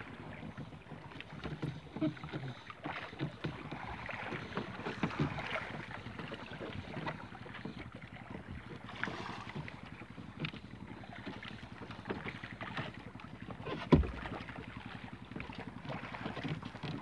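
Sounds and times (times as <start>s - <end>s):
water lapping against boat hull: 0.0s - 17.0s
knocks on wooden boat: 0.4s - 17.0s.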